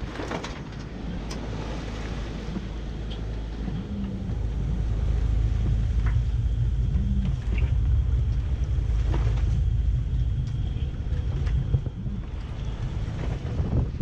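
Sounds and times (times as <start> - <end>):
low rumble on sailing yacht: 0.0 - 14.0.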